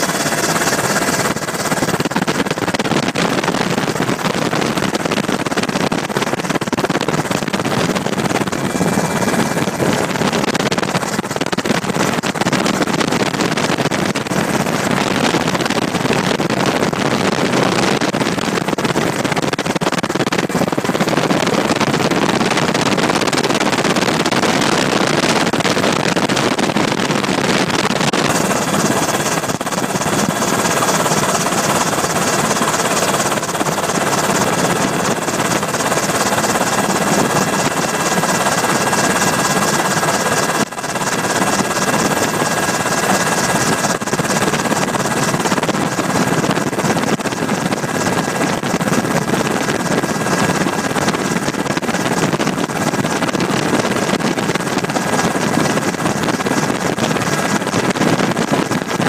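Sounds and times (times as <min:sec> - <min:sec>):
helicopter rotor and turbine noise: 0:00.0 - 0:59.0.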